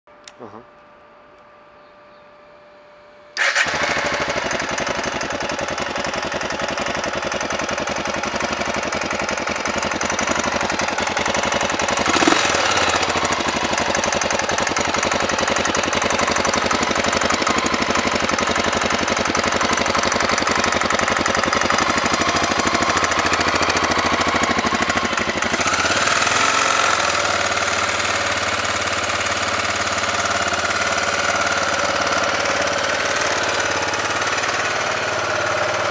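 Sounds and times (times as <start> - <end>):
motorcycle engine running: 3.4 - 35.9
engine knock: 3.5 - 35.9.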